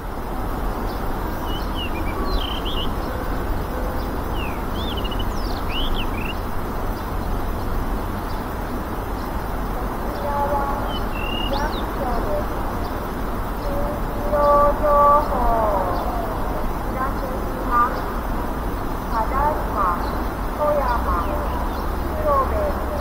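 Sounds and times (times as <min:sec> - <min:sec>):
low rushing background noise: 0:00.0 - 0:23.0
small birds chirping: 0:00.6 - 0:23.0.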